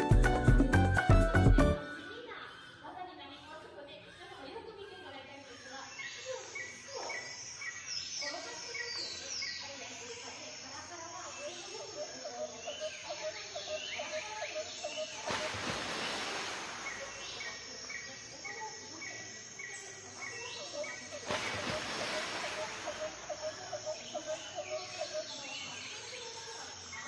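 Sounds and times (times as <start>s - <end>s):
birds chirping: 1.8s - 27.0s.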